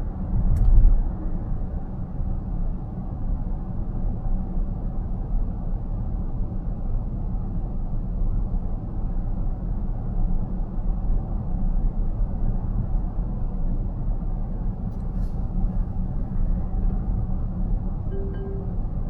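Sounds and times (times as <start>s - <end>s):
road and tyre rumble in car: 0.0s - 18.2s.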